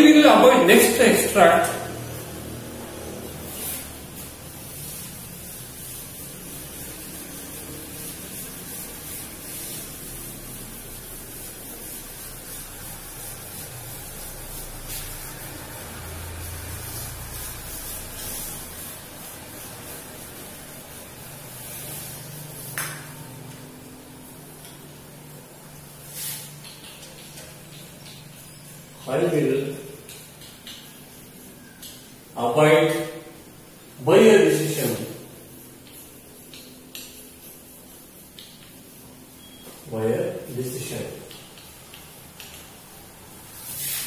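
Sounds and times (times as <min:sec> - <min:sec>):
duster rubbing on chalkboard: 0:00.0 - 0:44.0.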